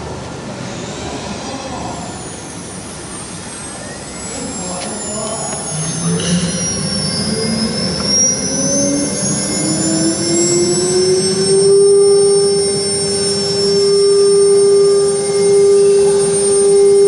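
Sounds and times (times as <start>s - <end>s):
spindle motors whining: 0.8s - 17.0s.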